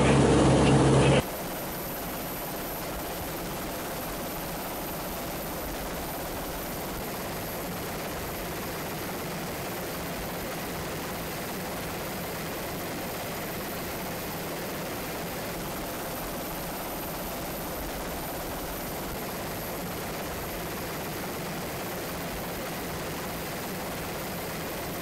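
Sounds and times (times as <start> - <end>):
aircraft drone: 0.0 - 25.0.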